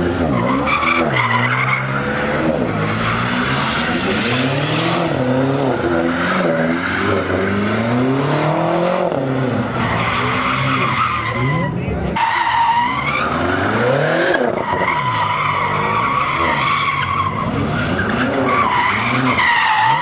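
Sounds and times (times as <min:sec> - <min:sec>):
car engine revving: 0:00.0 - 0:20.0
tyres screeching and skidding: 0:00.0 - 0:20.0.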